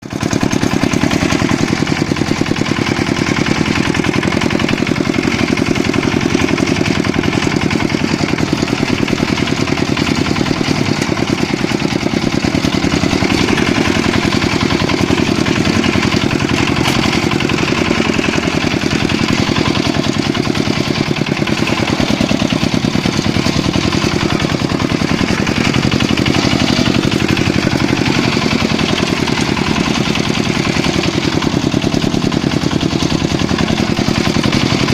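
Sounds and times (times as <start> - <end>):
tractor engine chugging: 0.0 - 34.9.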